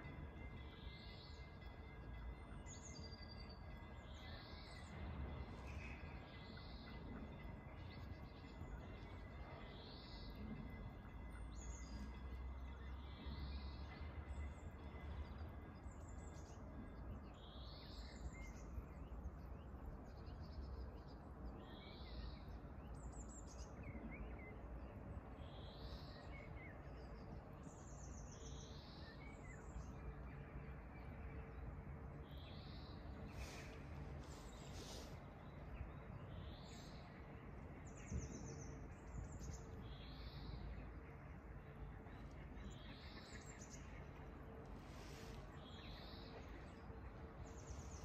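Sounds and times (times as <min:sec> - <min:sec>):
outdoor hiss with low rumble: 0:00.0 - 0:48.0
songbird singing: 0:00.0 - 0:48.0.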